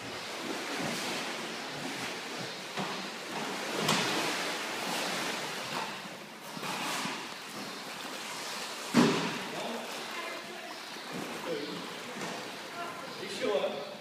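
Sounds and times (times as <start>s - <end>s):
water splashing around swimming horse: 0.0s - 13.8s.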